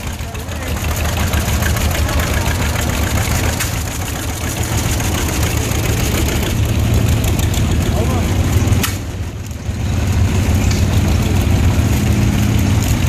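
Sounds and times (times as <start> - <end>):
old tractor engines running: 0.0 - 13.0
tractor engine passing: 0.0 - 13.0.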